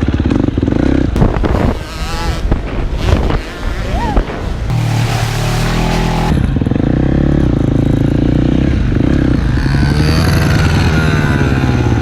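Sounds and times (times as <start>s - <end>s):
dirt bike engine revving: 0.3s - 12.0s.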